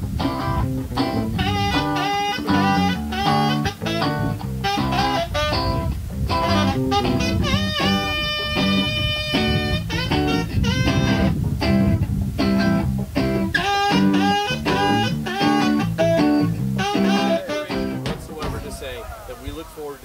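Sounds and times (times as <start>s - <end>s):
electric guitar: 0.0s - 18.5s
saxophone: 0.0s - 18.8s
drums: 0.0s - 19.2s.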